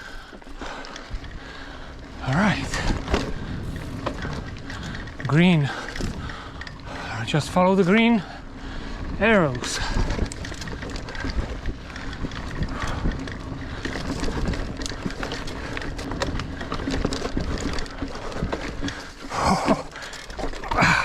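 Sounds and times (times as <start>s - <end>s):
bike clicks and rattles: 0.0s - 21.0s
bike tyre rumble on dirt: 0.0s - 21.0s.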